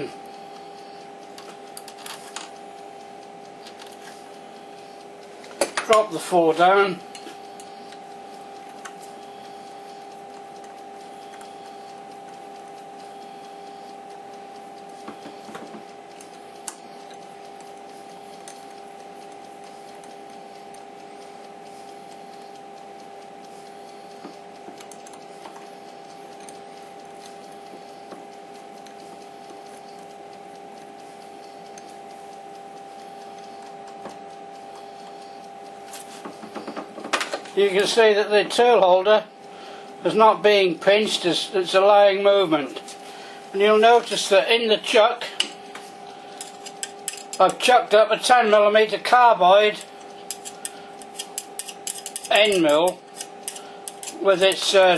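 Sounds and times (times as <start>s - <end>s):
lathe electrical hum: 0.0s - 54.9s.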